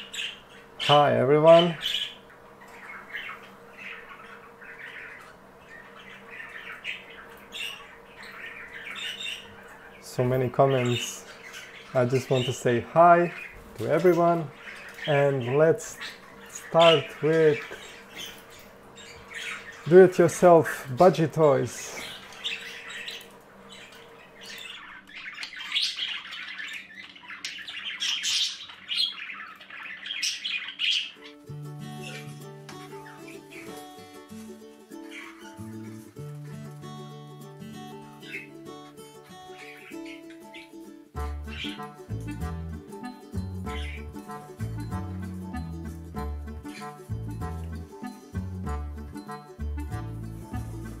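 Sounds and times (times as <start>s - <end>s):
budgerigars chirping: 0.0s - 34.2s, 35.0s - 51.0s.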